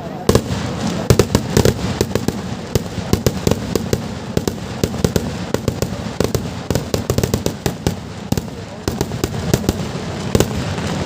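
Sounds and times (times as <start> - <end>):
continuous rumble: 0.0 - 11.0
firecracker bangs: 0.2 - 11.0.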